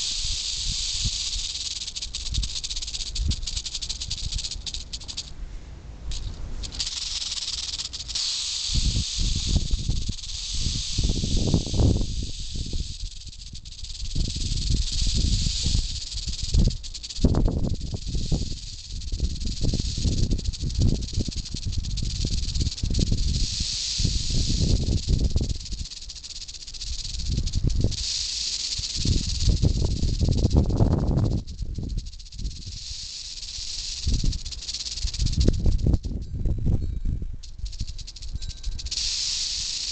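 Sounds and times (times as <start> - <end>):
rattlesnake tail rattle buzzing: 0.0 - 5.4, 6.0 - 39.9.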